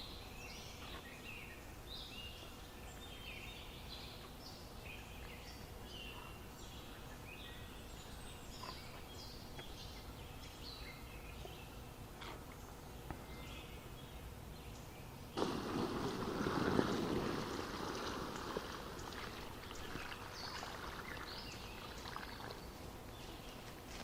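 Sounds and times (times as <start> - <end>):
small birds chirping faintly: 0.0 - 24.0.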